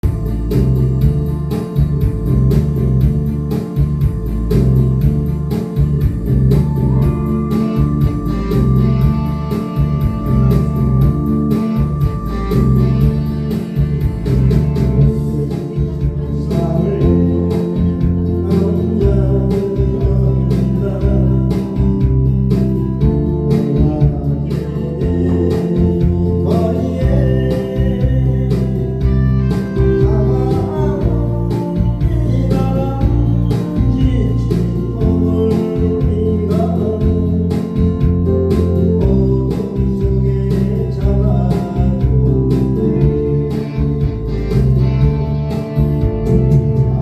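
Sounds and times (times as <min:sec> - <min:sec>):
instrumental backing track: 0:00.0 - 0:47.0.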